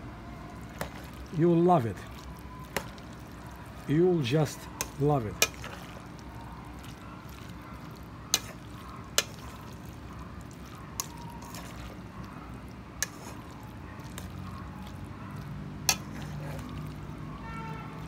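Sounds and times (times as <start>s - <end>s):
wet squelching: 0.5s - 18.0s.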